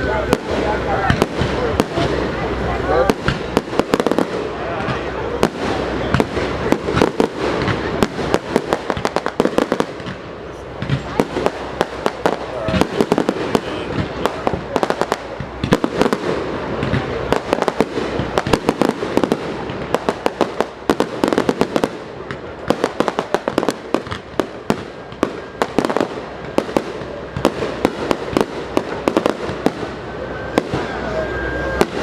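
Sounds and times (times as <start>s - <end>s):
firecrackers crackling: 0.0s - 32.0s
fireworks bangs and pops: 0.0s - 32.0s.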